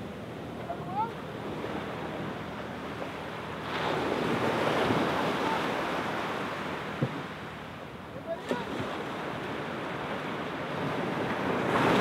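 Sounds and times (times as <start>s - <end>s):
surf washing onto beach: 0.0s - 7.5s, 8.2s - 12.0s.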